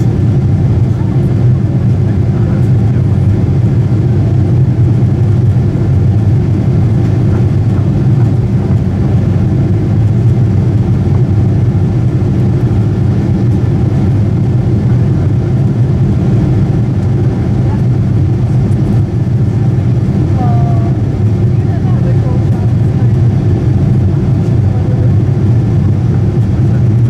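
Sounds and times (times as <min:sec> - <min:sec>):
jet engine low rumble: 0:00.0 - 0:27.0.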